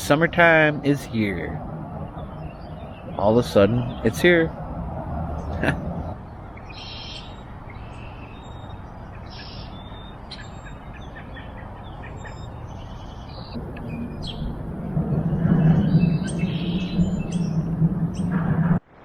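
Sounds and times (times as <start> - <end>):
birds chirping: 0.0 - 18.7
low rush of background noise: 0.0 - 19.0.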